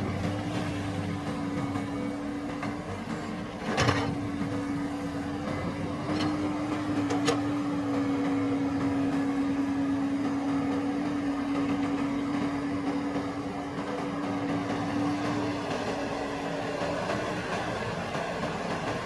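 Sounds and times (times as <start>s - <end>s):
farm machine engine humming: 0.0s - 19.0s.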